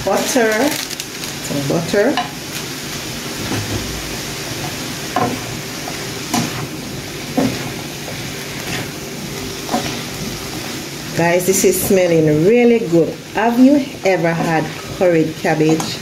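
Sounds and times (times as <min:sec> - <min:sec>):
cabbage sizzling in frying pan: 0:00.0 - 0:16.0
stirring strokes against pan: 0:01.3 - 0:16.0.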